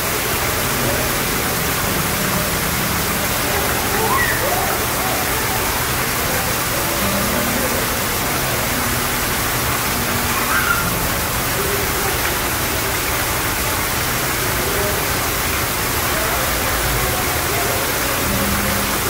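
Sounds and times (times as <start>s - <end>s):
waterfall splashing into pond: 0.0s - 19.0s.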